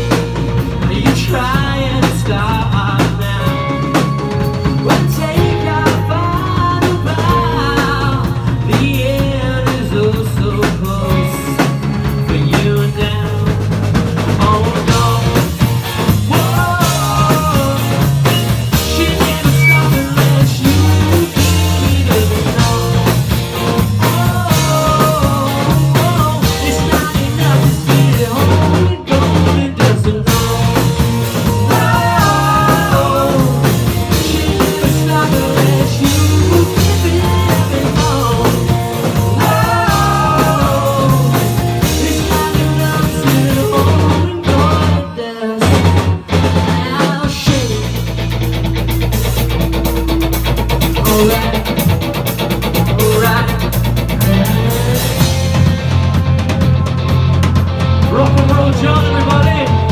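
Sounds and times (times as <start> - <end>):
man singing: 0.0 - 48.2, 50.9 - 51.9, 52.8 - 55.7, 58.0 - 59.9
bass guitar: 0.0 - 59.9
drum kit: 0.0 - 59.9
electric guitars: 0.0 - 59.9.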